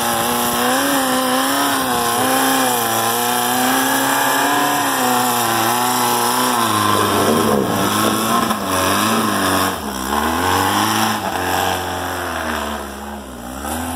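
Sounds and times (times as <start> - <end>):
buggy engine revving: 0.0 - 13.9.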